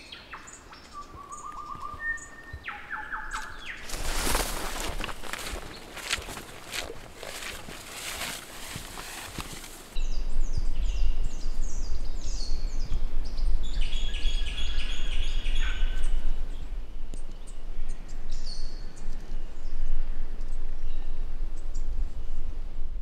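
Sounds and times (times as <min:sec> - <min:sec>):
birds chirping: 0:00.0 - 0:19.8.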